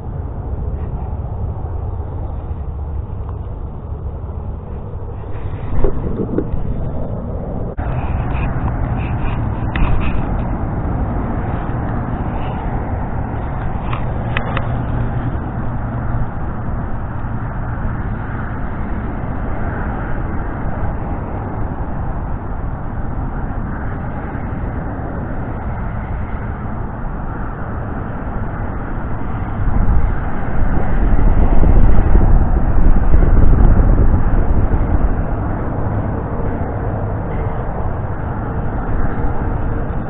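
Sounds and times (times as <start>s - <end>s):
loud low rumbling noise: 0.0s - 40.0s.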